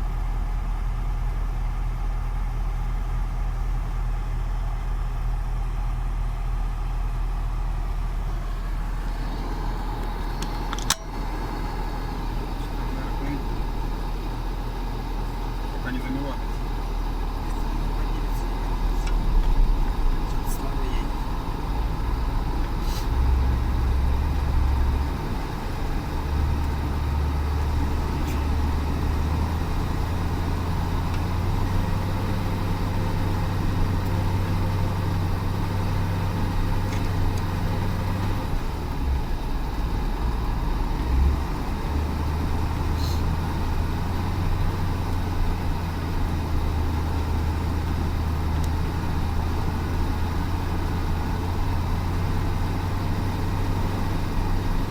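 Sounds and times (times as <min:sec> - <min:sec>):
heavy truck engine droning: 0:00.0 - 0:54.9.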